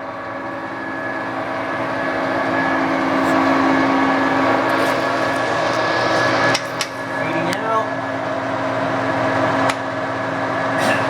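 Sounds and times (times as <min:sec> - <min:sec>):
lathe gear whine: 0:00.0 - 0:11.0.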